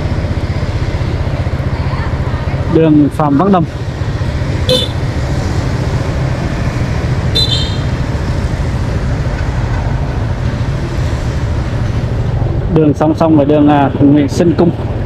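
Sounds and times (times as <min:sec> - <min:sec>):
motorbike engine and road noise: 0:00.0 - 0:15.0
passing vehicles: 0:00.0 - 0:15.0.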